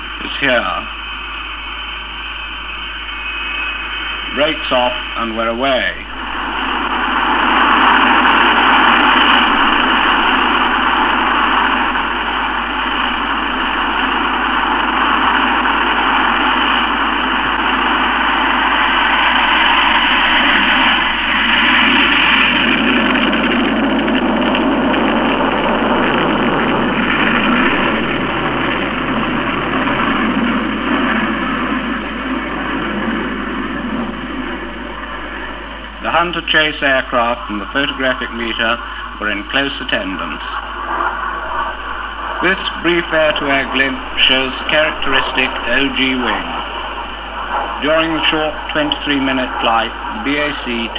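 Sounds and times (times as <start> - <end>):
jet engine roar: 0.0 - 50.9.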